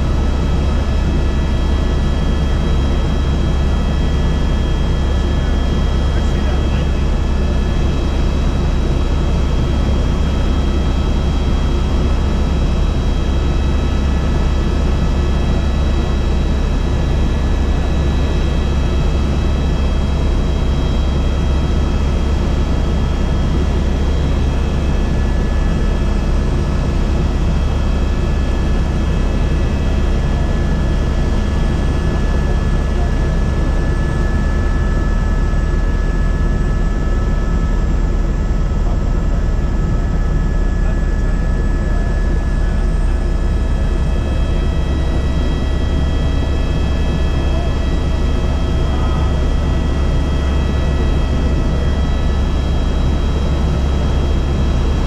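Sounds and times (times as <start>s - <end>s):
helicopter rotor and turbine drone: 0.0s - 55.0s.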